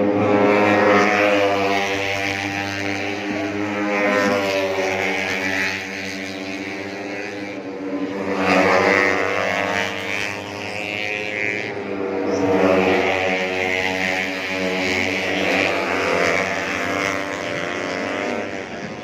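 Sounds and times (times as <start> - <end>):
motorcycle engines revving high: 0.0 - 19.0.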